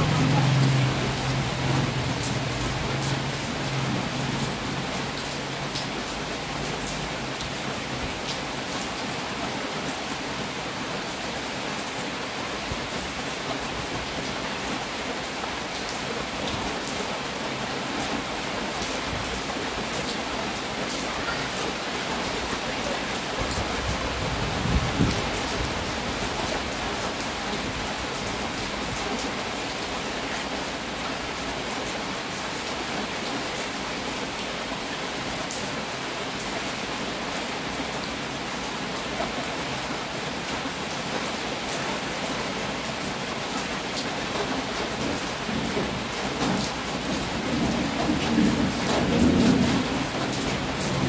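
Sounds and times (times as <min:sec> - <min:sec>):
heavy rain: 0:00.0 - 0:51.0.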